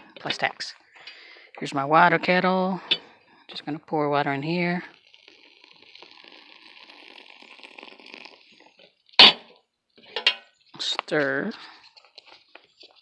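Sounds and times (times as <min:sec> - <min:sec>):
water pouring from kettle: 0:00.1 - 0:13.0.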